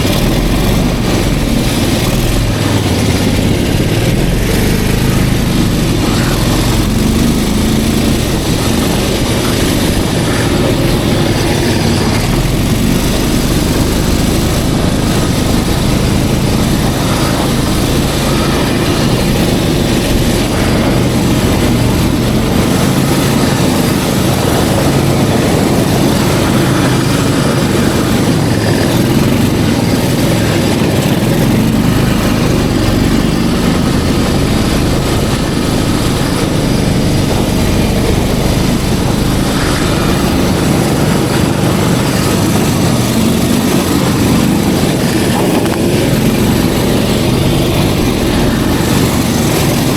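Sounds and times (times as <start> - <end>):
snowmobile engine running: 0.0 - 49.9.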